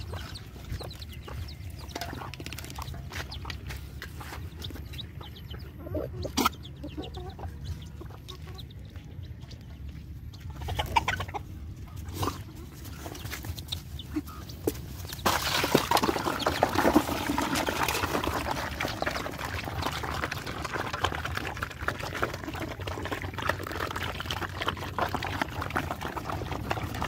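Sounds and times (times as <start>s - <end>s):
dogs lapping and chewing: 0.0s - 27.0s.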